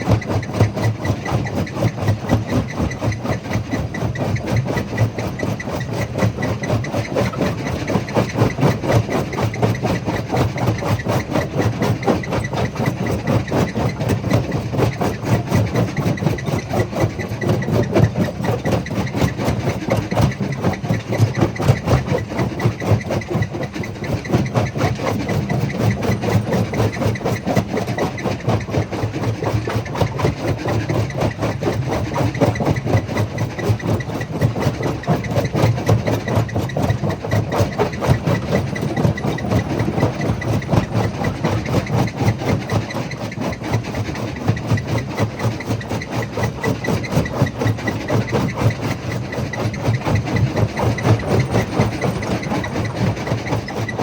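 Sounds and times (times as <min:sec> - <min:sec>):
jaw crusher running: 0:00.0 - 0:54.0.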